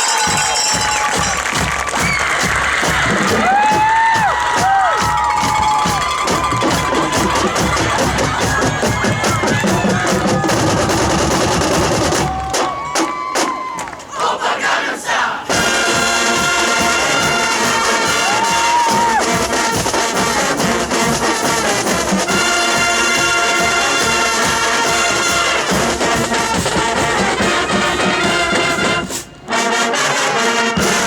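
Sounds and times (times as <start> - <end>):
marching band brass chords: 0.0 - 31.0.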